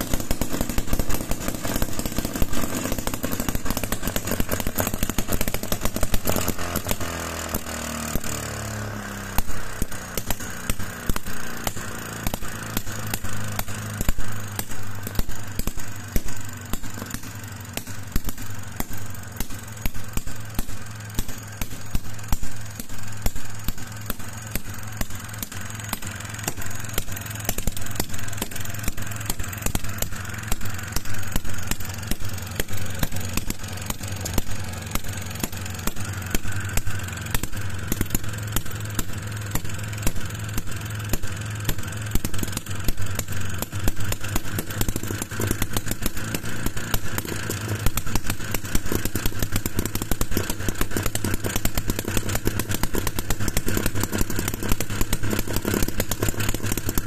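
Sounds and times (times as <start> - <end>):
model engine firing clicks: 0.0 - 8.5, 9.3 - 57.0.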